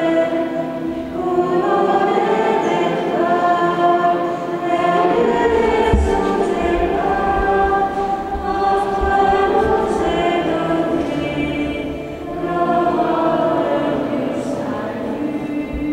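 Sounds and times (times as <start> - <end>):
choir singing chords: 0.0 - 15.9.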